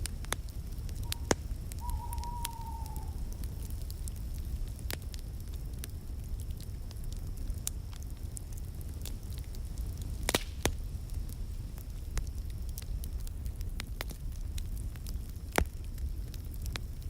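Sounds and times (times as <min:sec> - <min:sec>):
low steady rumble: 0:00.0 - 0:17.0
sharp pops of fire: 0:00.0 - 0:17.0
wood fire crackling: 0:00.0 - 0:17.0.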